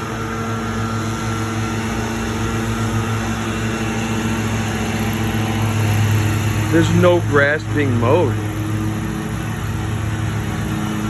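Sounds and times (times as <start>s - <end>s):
small gasoline engines running: 0.0s - 11.0s.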